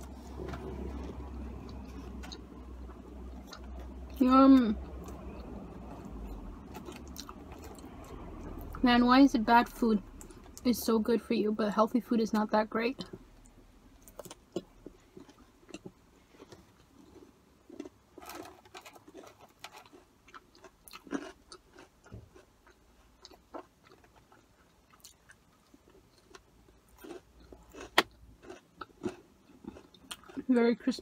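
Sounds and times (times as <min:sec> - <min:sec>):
person chewing crunchy fries: 0:00.0 - 0:08.8, 0:13.1 - 0:31.0.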